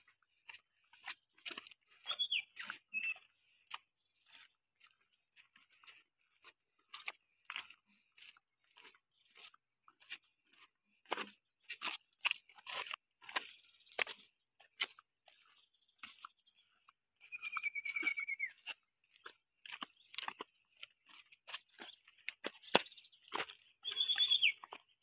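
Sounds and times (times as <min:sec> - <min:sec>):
footsteps crunching on gravel: 0:00.0 - 0:25.0.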